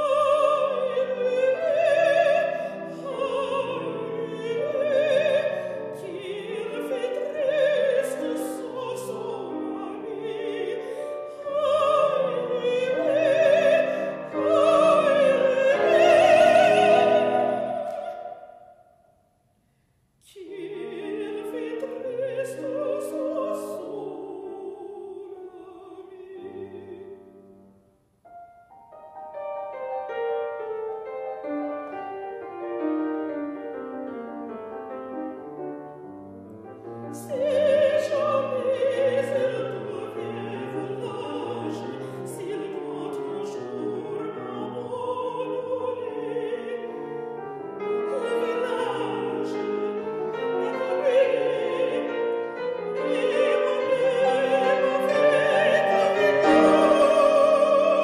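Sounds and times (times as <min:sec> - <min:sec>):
woman singing opera: 0:00.0 - 0:18.8, 0:20.2 - 0:27.4, 0:36.8 - 0:58.0
grand piano: 0:00.0 - 0:58.0.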